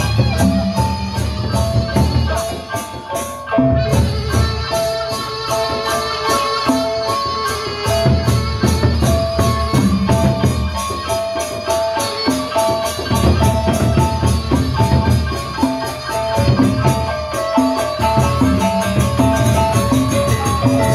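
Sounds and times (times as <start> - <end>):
big barrel drums beating: 0.0 - 5.5, 6.4 - 20.9
pitched metal melody: 0.0 - 20.9.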